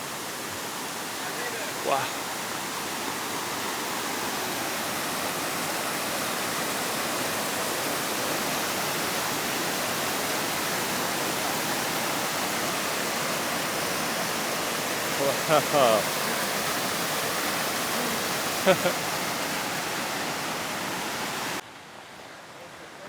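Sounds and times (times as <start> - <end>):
waterfall rushing and splashing: 0.0 - 23.0.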